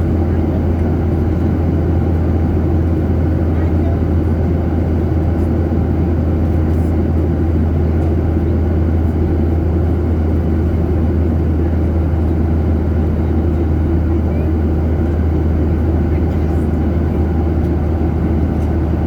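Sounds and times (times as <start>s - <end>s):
jet engine hum in cabin: 0.0s - 19.0s.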